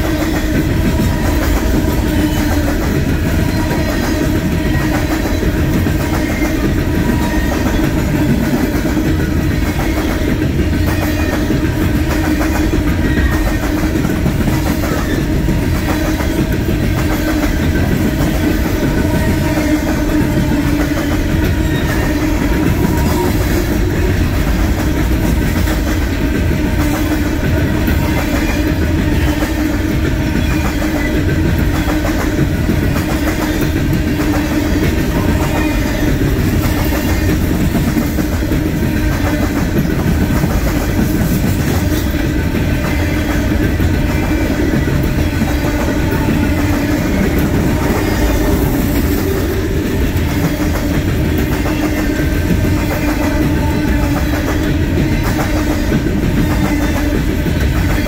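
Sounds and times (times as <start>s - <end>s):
train rumble: 0.0s - 58.0s
train wheels clicking over rail joints: 0.0s - 58.0s.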